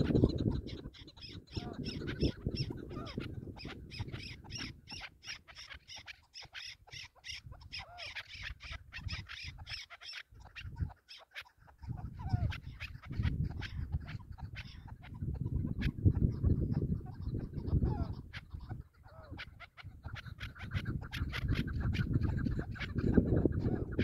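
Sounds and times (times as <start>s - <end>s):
partridge clucking calls: 0.0s - 24.0s.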